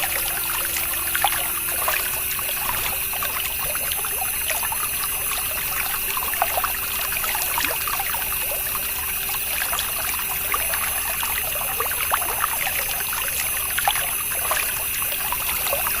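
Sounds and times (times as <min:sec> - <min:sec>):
small electric motor humming: 0:00.0 - 0:16.0
water trickling and splashing: 0:00.0 - 0:16.0.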